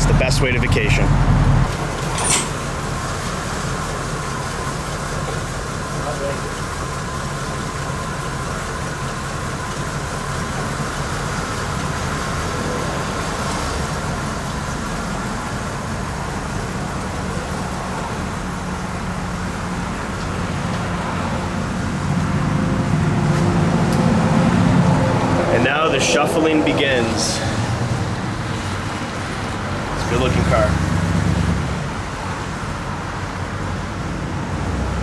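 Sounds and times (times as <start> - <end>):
car engine running: 0.0 - 33.5.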